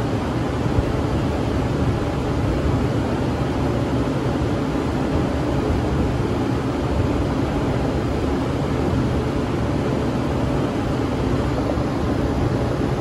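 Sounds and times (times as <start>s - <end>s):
floor fan air rush: 0.0s - 13.0s.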